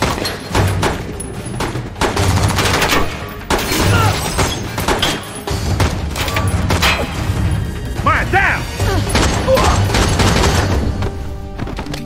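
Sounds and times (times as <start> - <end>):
gunshots: 0.0 - 11.2.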